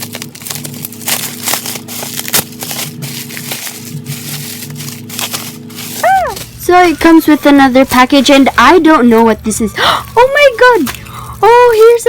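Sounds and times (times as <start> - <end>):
faint background music: 0.0 - 12.0
plastic packaging crinkling: 0.0 - 12.0.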